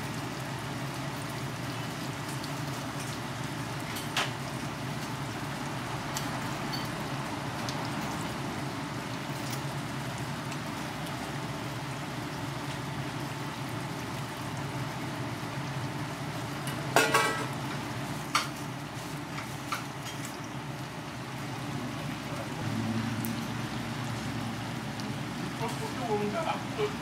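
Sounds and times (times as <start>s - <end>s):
pancakes sizzling in oil: 0.0s - 27.0s.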